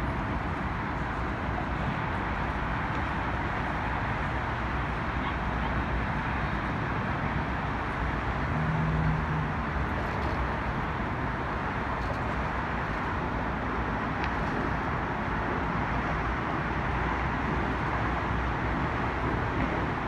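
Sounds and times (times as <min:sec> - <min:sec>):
city traffic roar: 0:00.0 - 0:20.0.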